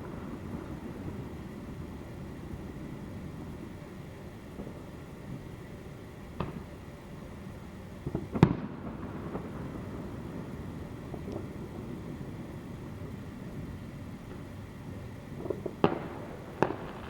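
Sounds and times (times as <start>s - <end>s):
fireworks banging: 0.0s - 5.7s, 6.4s - 6.9s, 8.0s - 17.0s
low background rumble: 0.0s - 17.0s.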